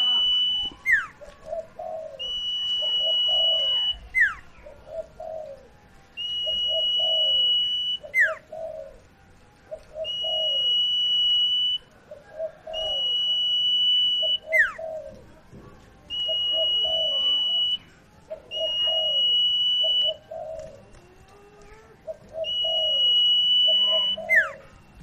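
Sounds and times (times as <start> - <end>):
songbird singing whistled phrase: 0.0 - 9.1, 9.7 - 15.2, 16.0 - 25.0.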